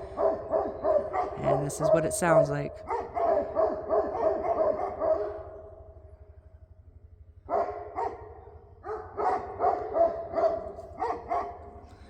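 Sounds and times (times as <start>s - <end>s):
dogs barking: 0.0s - 5.6s, 7.5s - 11.8s.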